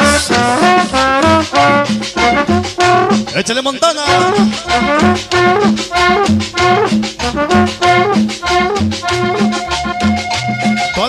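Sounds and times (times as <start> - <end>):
steady bass beat: 0.0 - 3.4, 4.0 - 11.0
cumbia music over sound system: 0.0 - 11.0.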